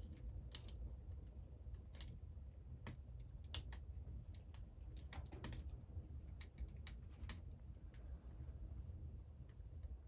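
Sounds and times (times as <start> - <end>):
low steady rumble: 0.0 - 10.0
wood fire crackling in stove: 0.0 - 10.0.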